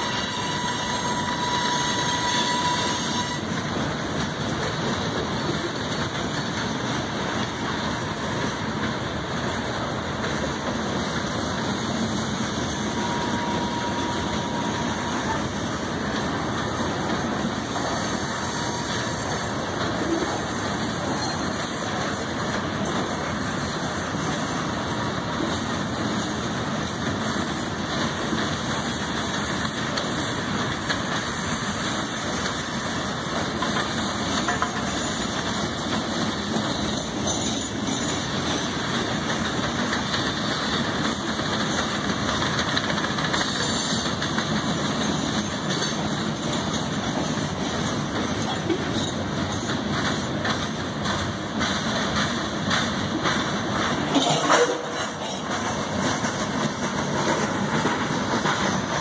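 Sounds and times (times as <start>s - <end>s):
steel wheels on rail: 0.0s - 59.0s.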